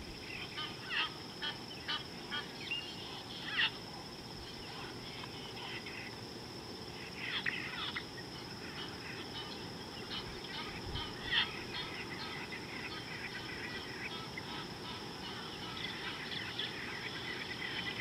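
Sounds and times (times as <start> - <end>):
wild birds calling: 0.0 - 18.0.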